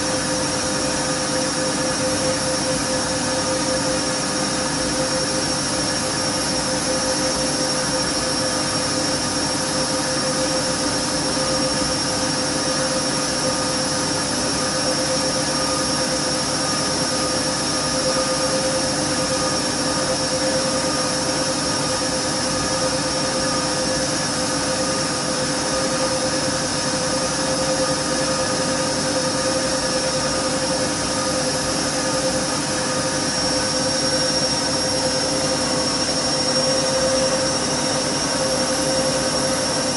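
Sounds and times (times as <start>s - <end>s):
washing machine motor whine: 0.0s - 39.9s.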